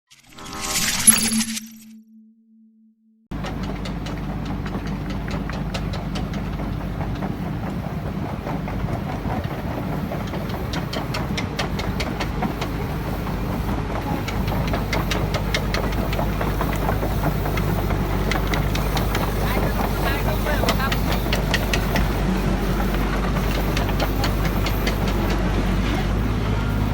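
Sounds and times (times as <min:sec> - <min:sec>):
diesel engine running: 0:03.3 - 0:26.9
steel tracks clanking: 0:03.4 - 0:26.9.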